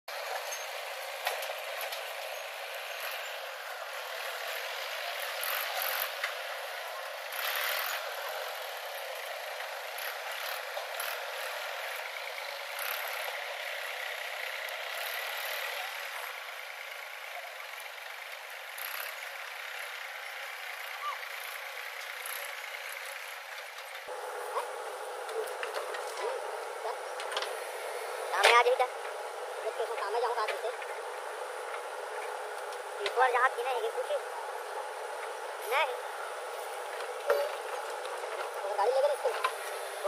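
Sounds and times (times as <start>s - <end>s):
backhoe loader engine running: 0.1s - 40.0s.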